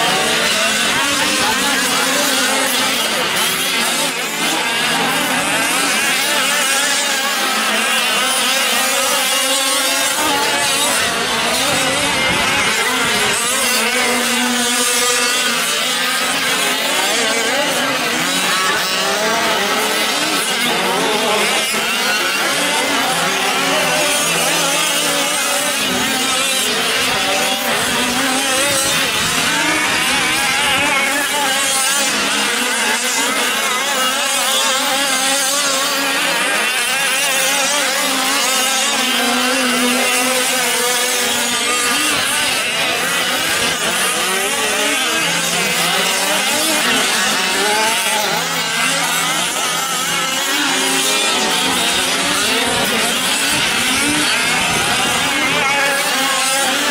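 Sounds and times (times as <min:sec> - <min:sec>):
small two-stroke engines revving: 0:00.0 - 0:56.9.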